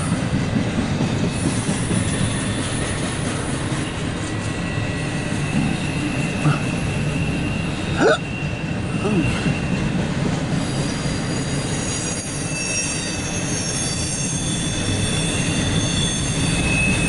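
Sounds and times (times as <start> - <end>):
freight train rumbling past: 0.0 - 17.0
steel wheels squealing: 1.2 - 17.0.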